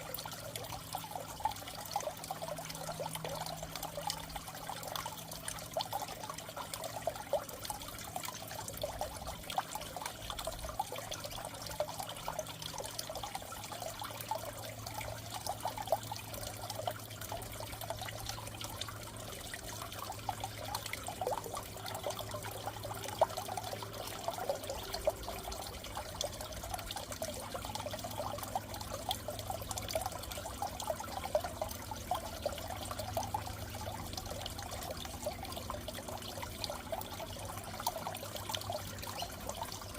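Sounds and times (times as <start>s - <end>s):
aquarium water trickling and bubbling: 0.0s - 39.9s
low steady hum: 0.0s - 39.9s.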